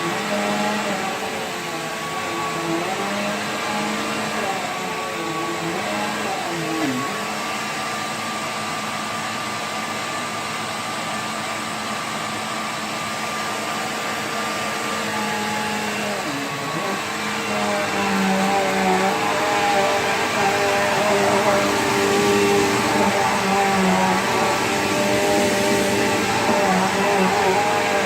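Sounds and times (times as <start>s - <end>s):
upright vacuum cleaner running: 0.0s - 28.0s.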